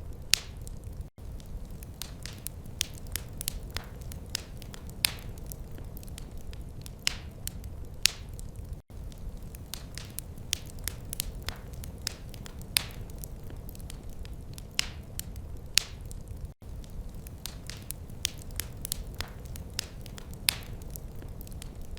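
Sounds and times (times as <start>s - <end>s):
wood fire crackling and popping: 0.0s - 21.9s.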